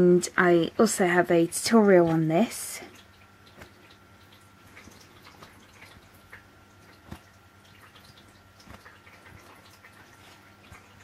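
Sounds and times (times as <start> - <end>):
faint steady hum: 0.0 - 11.0
soft rustling and small ticks: 1.5 - 11.0.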